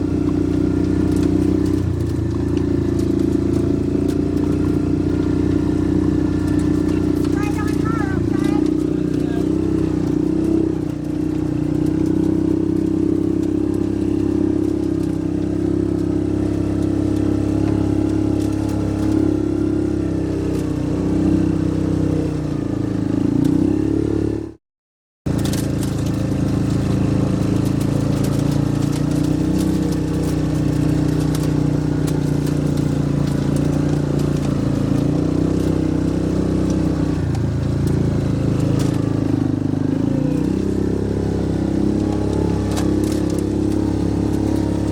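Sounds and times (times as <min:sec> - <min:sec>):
vehicle engine running: 0:00.0 - 0:24.6, 0:25.2 - 0:44.9.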